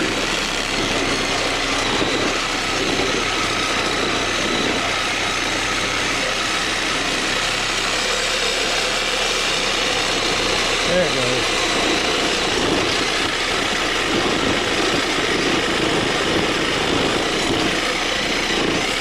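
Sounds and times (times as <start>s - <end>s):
power saw cutting metal coil: 0.0s - 19.0s.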